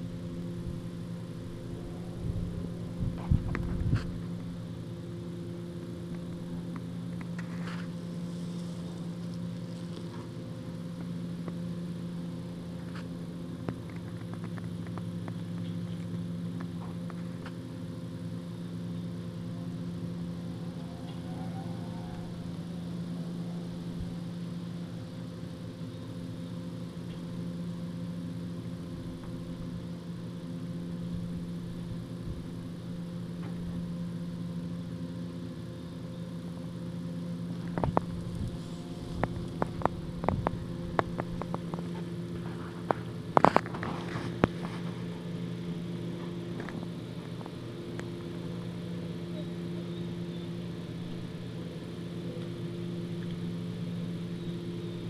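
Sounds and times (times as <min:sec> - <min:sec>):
steady engine-like hum: 0:00.0 - 0:55.0.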